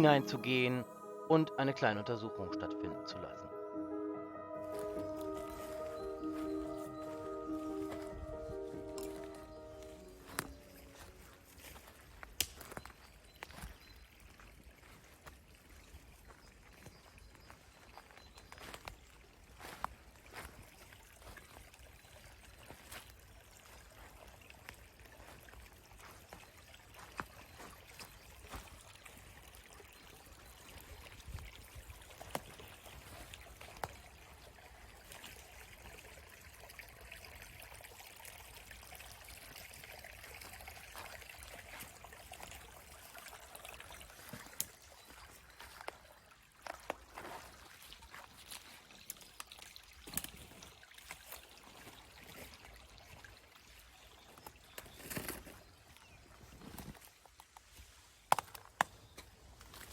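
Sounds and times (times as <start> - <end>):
faint trickle of forest brook: 4.7 - 59.9.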